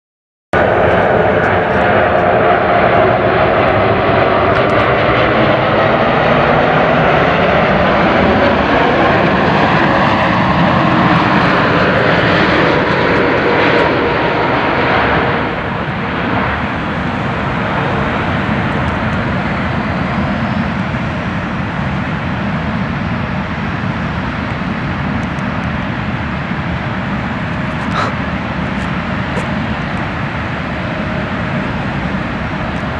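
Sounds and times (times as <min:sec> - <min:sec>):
jet engine whine and rumble: 0:00.6 - 0:32.9.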